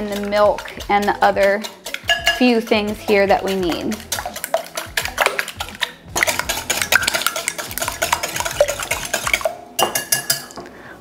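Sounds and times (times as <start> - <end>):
whisk clinking against glass: 0.0 - 10.6.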